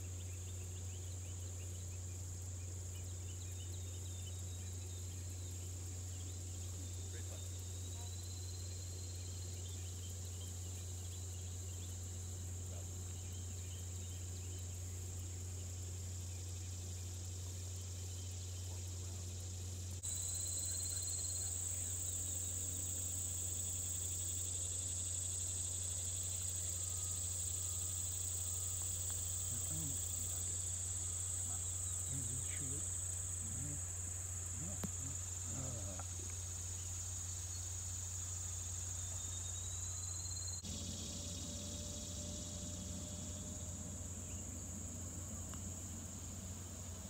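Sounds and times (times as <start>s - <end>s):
insects chorus: 0.0s - 47.0s.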